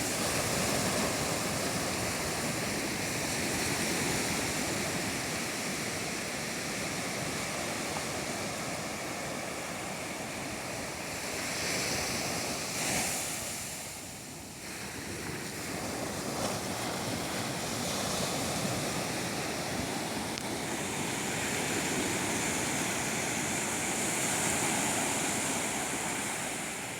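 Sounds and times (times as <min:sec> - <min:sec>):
ocean surf breaking on beach: 0:00.0 - 0:26.9.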